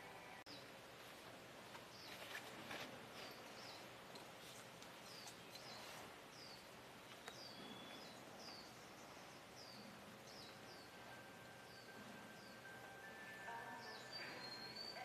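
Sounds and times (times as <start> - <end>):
low hiss: 0.0 - 15.0
bird chirping: 1.9 - 2.5, 3.2 - 15.0.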